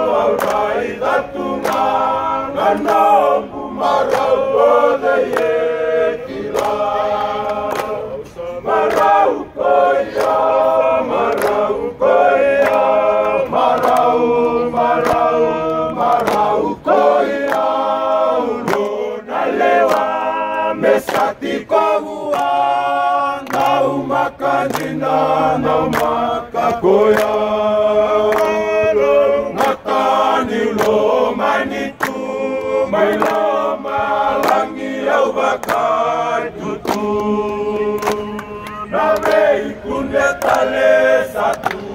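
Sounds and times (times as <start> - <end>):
men singing in harmony: 0.0 - 41.9
hands clapping: 0.1 - 2.0, 2.6 - 5.6, 6.3 - 11.8, 12.4 - 17.8, 18.6 - 19.0, 19.7 - 22.7, 23.4 - 27.6, 28.2 - 41.9.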